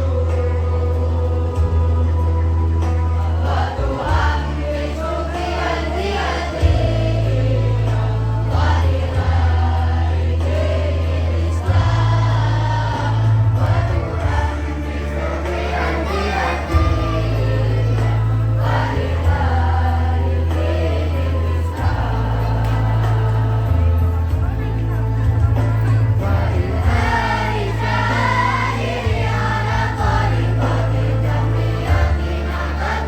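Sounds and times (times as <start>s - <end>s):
choir singing devotional song: 0.0s - 33.0s
musical accompaniment with bass notes: 0.0s - 33.0s.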